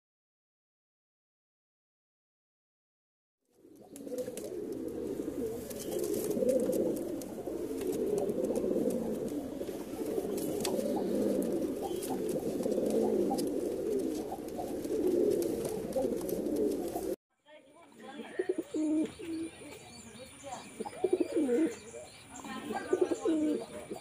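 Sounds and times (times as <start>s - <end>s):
pigeons cooing: 3.6s - 17.2s, 18.2s - 24.0s.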